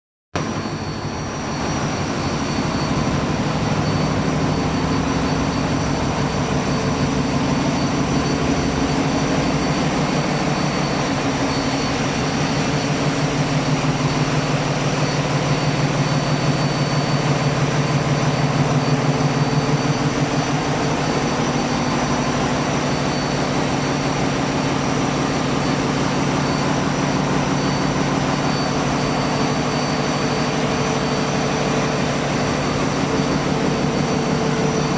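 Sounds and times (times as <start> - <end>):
boat engine running: 0.4 - 34.9.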